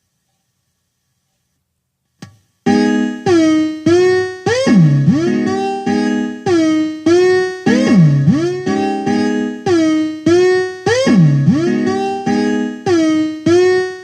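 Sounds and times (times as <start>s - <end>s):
plucked guitar-like riff: 2.7s - 14.0s.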